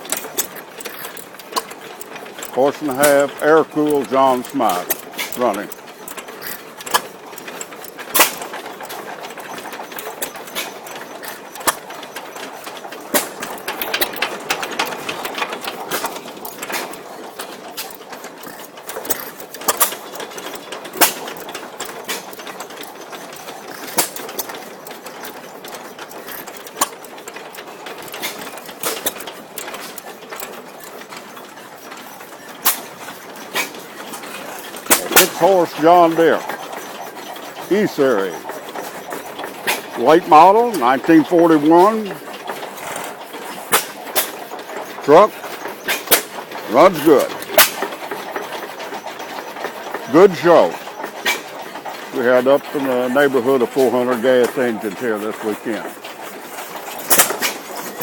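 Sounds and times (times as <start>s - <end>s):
gas engine clatter: 0.0s - 58.0s.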